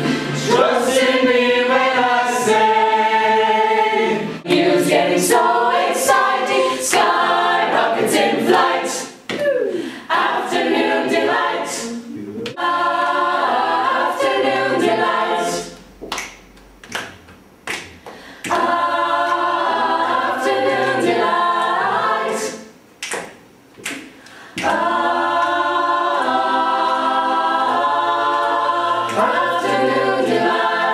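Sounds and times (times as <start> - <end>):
choir singing a cappella: 0.0 - 15.9, 18.4 - 22.8, 24.5 - 30.9.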